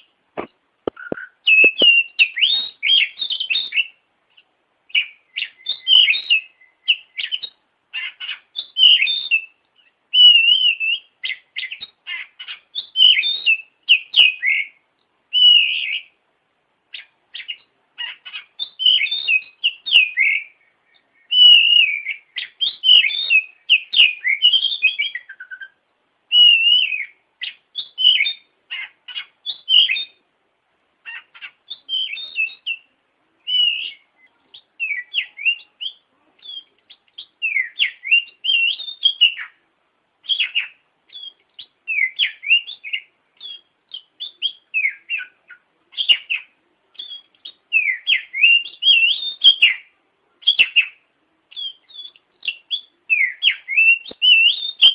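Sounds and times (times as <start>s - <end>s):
bird singing whistled phrases: 0.9s - 4.0s, 4.9s - 16.2s, 16.9s - 30.2s, 31.1s - 39.6s, 40.2s - 54.9s.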